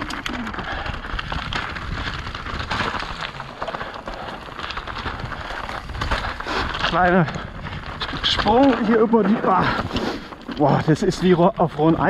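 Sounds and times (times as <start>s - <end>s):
bike clattering and rattling: 0.0s - 12.0s
bike tyres rolling over stones: 0.0s - 12.0s.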